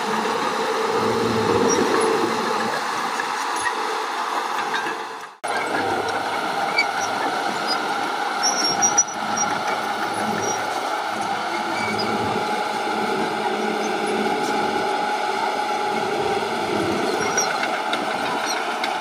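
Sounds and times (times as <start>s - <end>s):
heavy machinery running: 0.0s - 19.0s.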